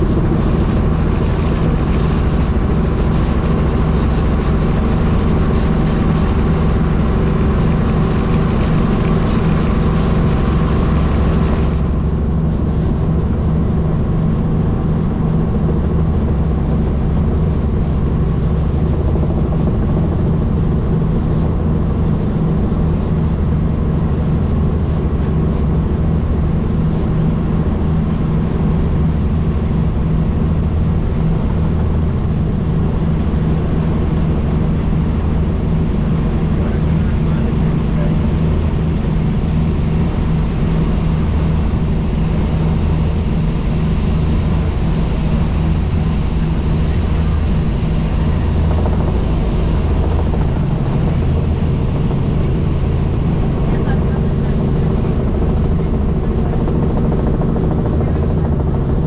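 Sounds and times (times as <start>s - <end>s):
helicopter engine and rotor noise: 0.0s - 59.0s.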